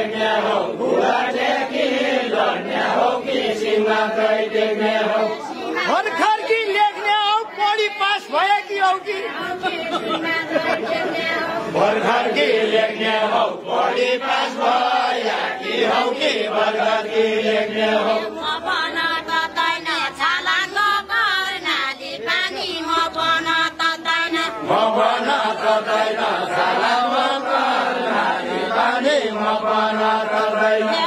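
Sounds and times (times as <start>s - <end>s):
group singing a folk song: 0.0s - 31.0s.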